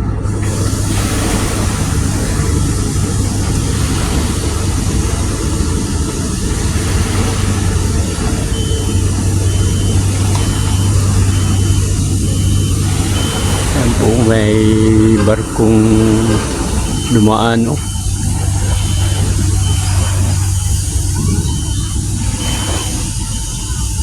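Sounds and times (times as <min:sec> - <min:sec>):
heavy engine rumble: 0:00.0 - 0:24.0
reversing alarm beeping: 0:00.0 - 0:24.0.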